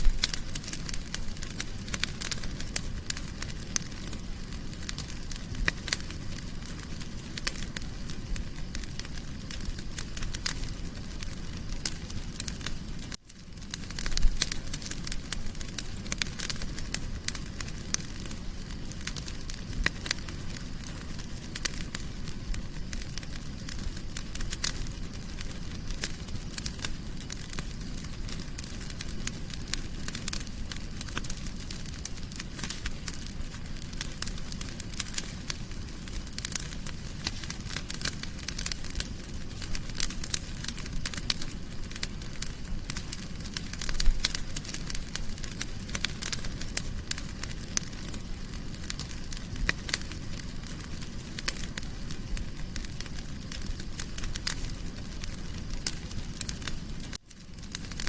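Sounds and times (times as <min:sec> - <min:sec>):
fire popping and snapping: 0:00.0 - 0:58.0
fire rumbling in fireplace: 0:00.0 - 0:58.0.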